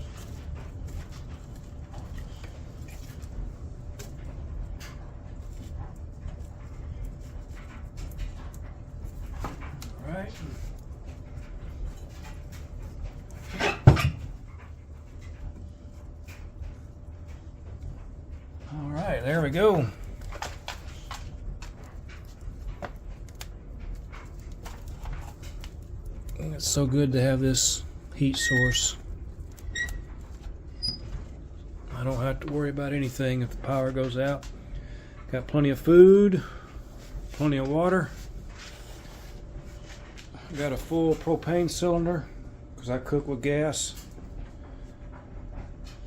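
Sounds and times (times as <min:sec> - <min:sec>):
stove low rumble: 0:00.0 - 0:46.0
wood crackling and popping: 0:00.0 - 0:46.0.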